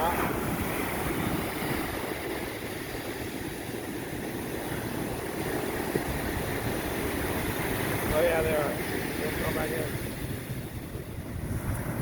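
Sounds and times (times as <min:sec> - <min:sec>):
ocean surf: 0:00.0 - 0:12.0
wind rumbling on microphone: 0:00.0 - 0:12.0.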